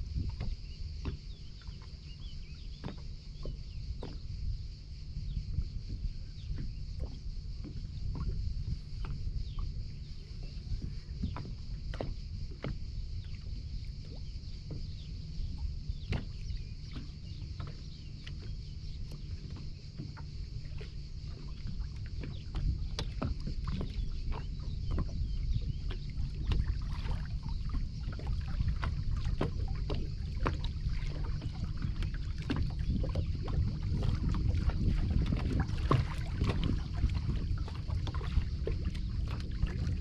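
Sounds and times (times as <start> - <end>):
waves slapping against hull: 0.0 - 40.0
wind rumbling on microphone: 0.0 - 40.0.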